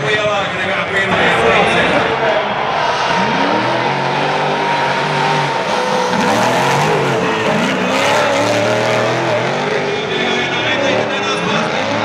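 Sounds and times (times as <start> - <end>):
car engine revving: 0.0 - 12.0
tyres squealing and skidding: 1.2 - 12.0.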